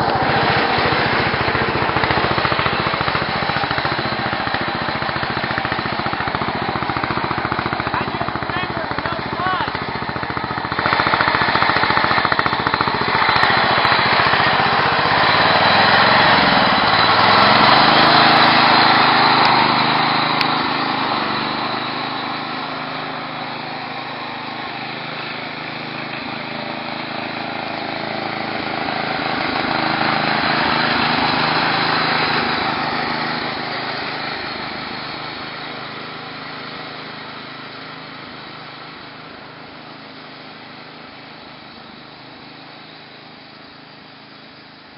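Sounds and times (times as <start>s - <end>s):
small tractor engine running: 0.0s - 44.9s.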